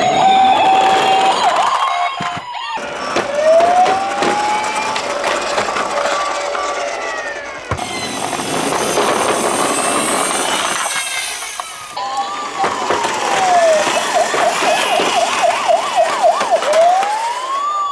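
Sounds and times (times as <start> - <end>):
faint sirens wailing: 0.0 - 17.9
toy car wheels rattling: 0.0 - 17.9.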